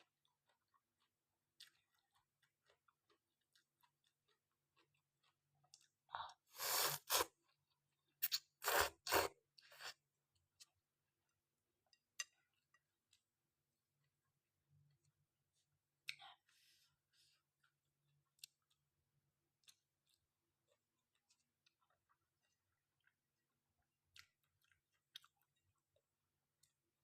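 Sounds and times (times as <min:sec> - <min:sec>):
person chewing softly: 0:00.0 - 0:27.0.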